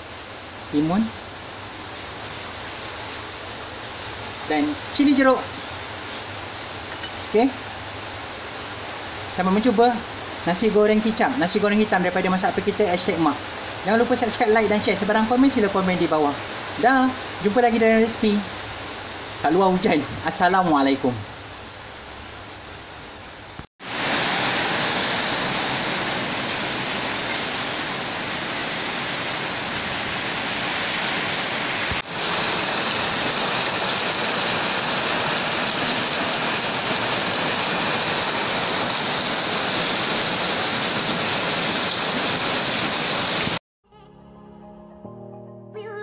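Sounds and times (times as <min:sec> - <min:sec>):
heavy rain pouring: 0:00.0 - 0:43.6.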